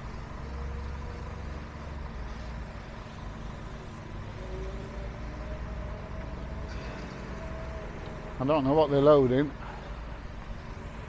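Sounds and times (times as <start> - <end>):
fork trucks and lorries rumbling: 0.0 - 11.0.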